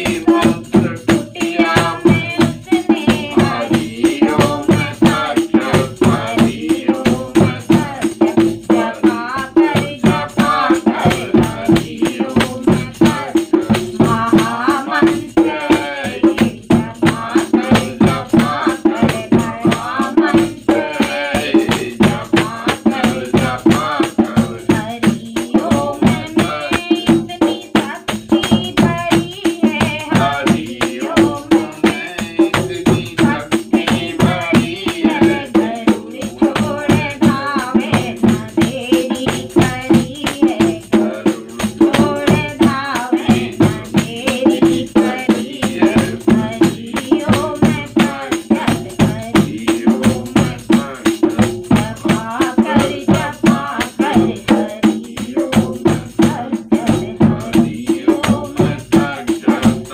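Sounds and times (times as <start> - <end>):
jingle clapper shaken to beat: 0.0 - 59.9
woman and man singing: 0.0 - 59.9.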